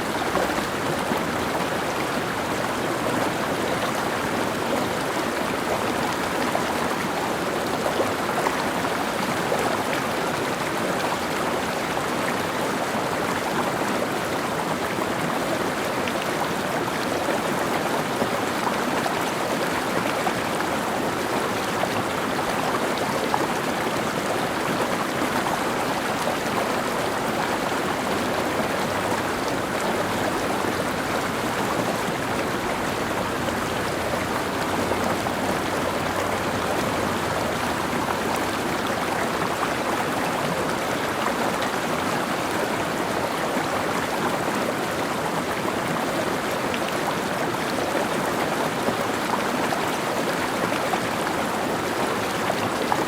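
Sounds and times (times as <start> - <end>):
stream flowing over rocks: 0.0 - 53.0.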